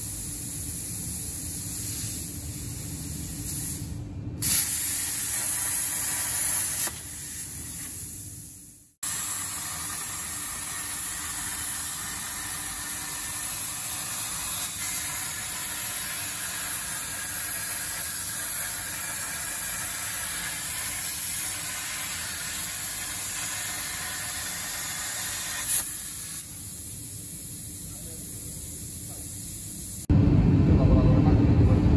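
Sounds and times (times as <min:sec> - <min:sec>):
plasma torch hissing: 0:00.0 - 0:30.1.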